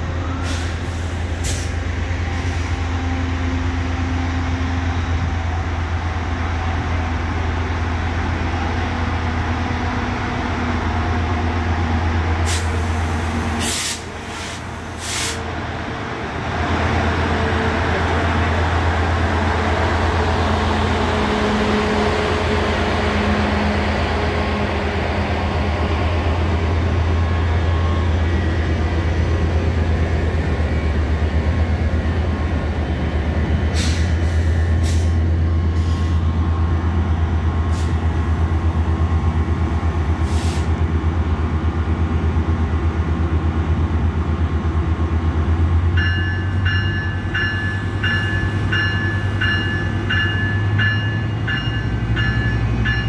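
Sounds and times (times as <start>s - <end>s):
diesel locomotive droning: 0.0s - 53.0s.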